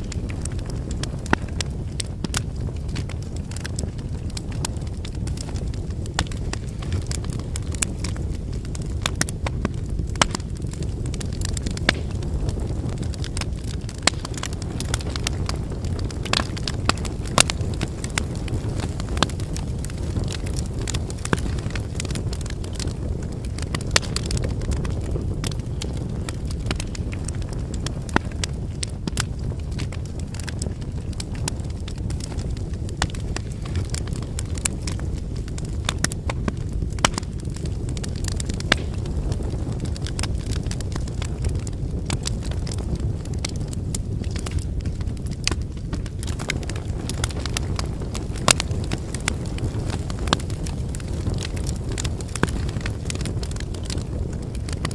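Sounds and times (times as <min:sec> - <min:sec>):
bonfire flame rumble: 0:00.0 - 0:54.9
wood fire crackling: 0:00.0 - 0:54.9.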